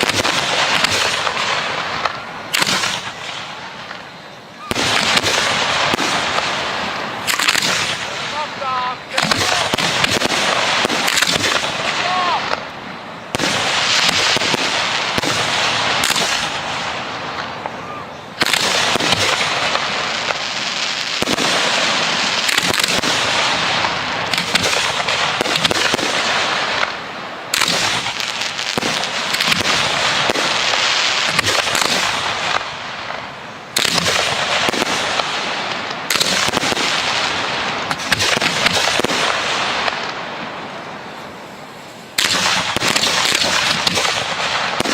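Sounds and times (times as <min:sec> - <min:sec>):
fireworks crackling and popping: 0:00.0 - 0:44.9.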